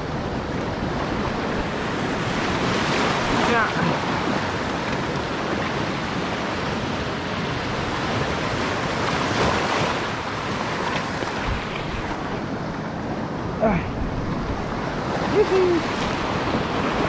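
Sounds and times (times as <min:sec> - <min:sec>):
waves breaking on rocks: 0:00.0 - 0:17.0.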